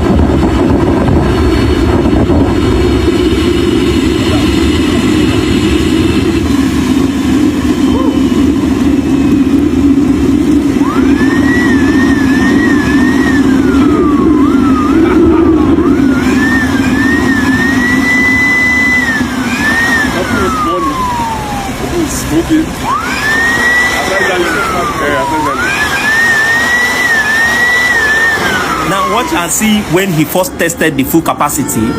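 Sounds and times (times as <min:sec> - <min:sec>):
jet engine roaring and whining: 0:00.0 - 0:31.9.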